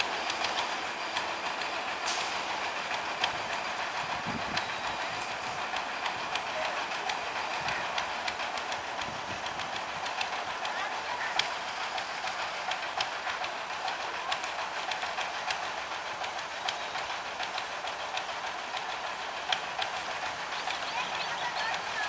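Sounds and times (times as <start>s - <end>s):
train wheels rumbling on rails: 0.0s - 22.0s
wheels clicking over rail joints: 0.0s - 22.0s.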